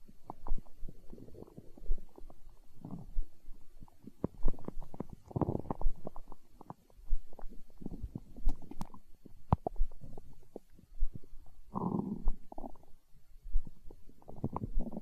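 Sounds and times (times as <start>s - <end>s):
stomach growling: 0.0s - 15.0s.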